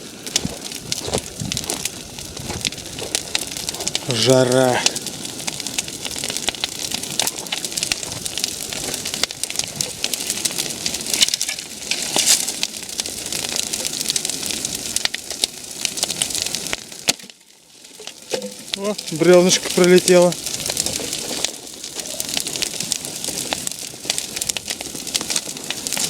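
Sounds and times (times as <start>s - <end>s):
bonfire flames rushing: 0.0s - 26.0s
fire crackling and popping: 0.0s - 26.0s.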